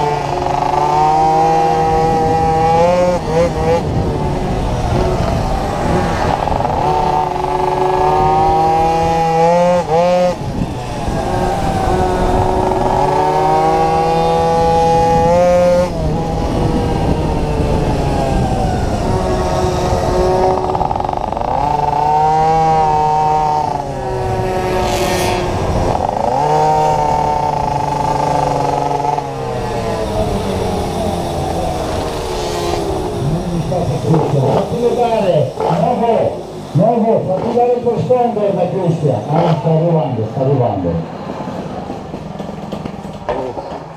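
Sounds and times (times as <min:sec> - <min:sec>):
small minibike engine revving: 0:00.0 - 0:39.8.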